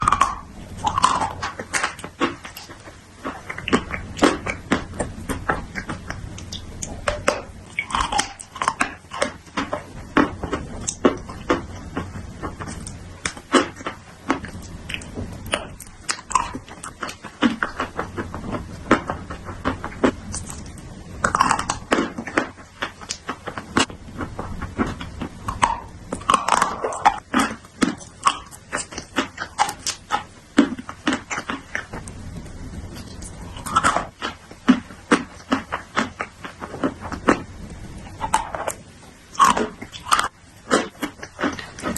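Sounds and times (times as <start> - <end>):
chalky pieces crunching between teeth: 0.0 - 41.9.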